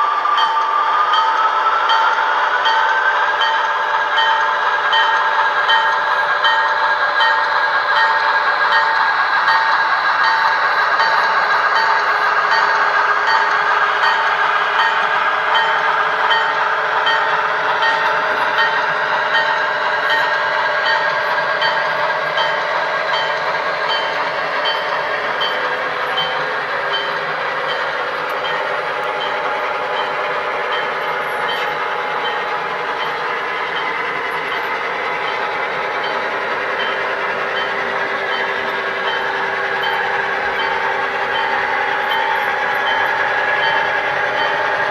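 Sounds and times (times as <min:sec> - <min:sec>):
model train diesel engine sound: 0:00.0 - 0:44.9.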